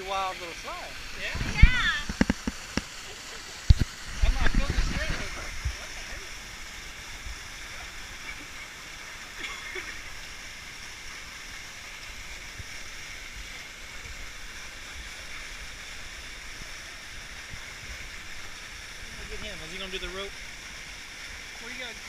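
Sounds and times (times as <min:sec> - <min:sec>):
river water rushing: 0:00.0 - 0:22.0
waterfall: 0:00.0 - 0:22.0.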